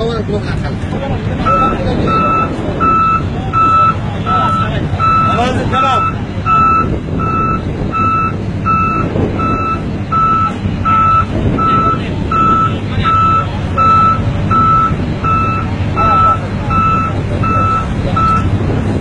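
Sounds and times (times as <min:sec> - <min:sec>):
diesel engine running: 0:00.0 - 0:19.0
backup alarm beeping: 0:01.4 - 0:18.6.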